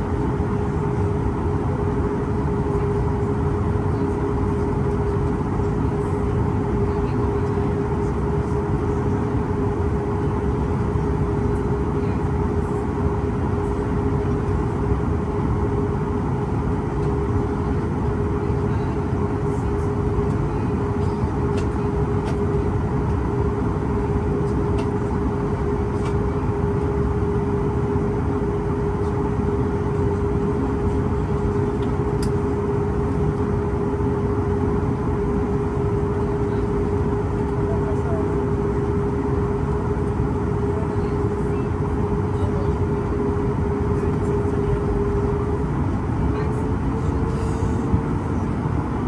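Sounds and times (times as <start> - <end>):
jet engines idling in cabin: 0.0 - 49.0.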